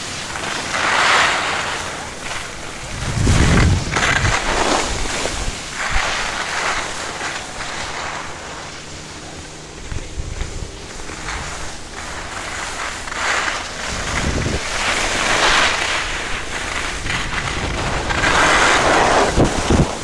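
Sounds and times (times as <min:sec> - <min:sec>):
skis hissing on snow: 0:00.0 - 0:20.0
wind rushing over microphone: 0:02.1 - 0:07.2, 0:08.2 - 0:20.0.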